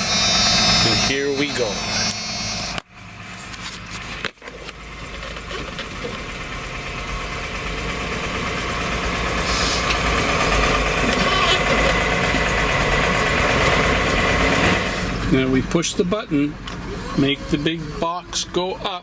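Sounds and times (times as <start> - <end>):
dump truck engine running: 0.0 - 19.0.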